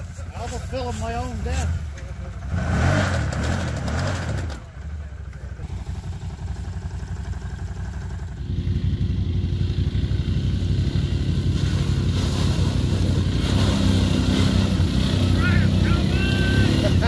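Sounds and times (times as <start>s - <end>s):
atv engine running in mud: 0.0s - 17.0s.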